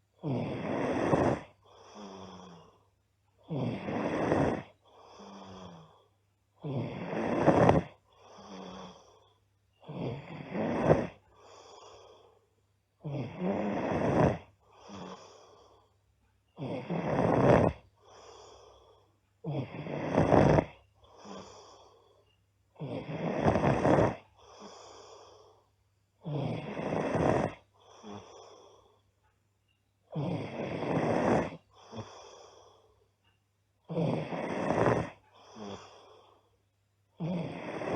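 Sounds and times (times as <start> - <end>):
quiet breath: 0.0 - 37.9
girl snoring loudly: 0.1 - 12.3, 13.0 - 15.9, 16.6 - 28.9, 30.1 - 32.8, 33.8 - 36.4, 37.2 - 37.9.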